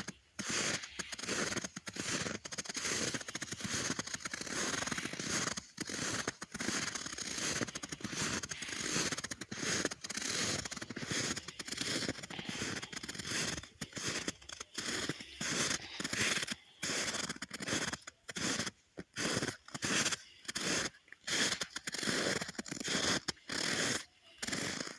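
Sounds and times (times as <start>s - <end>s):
footsteps crunching in snow: 0.0s - 24.9s.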